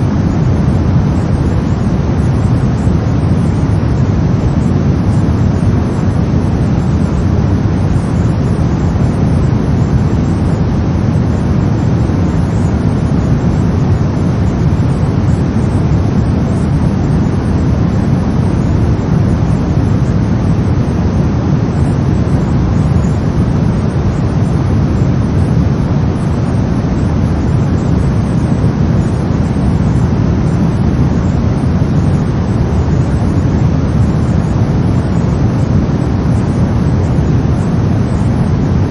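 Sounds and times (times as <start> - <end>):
brown noise rumble: 0.0 - 38.9.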